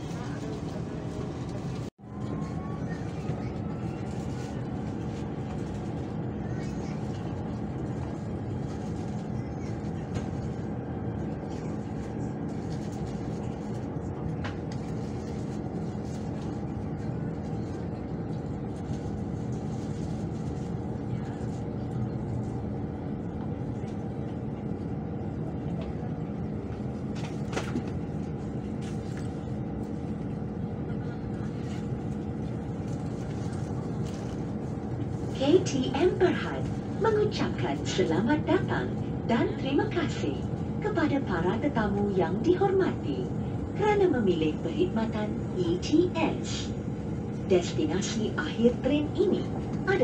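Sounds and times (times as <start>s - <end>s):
train cabin rumble and hum: 0.0s - 50.0s.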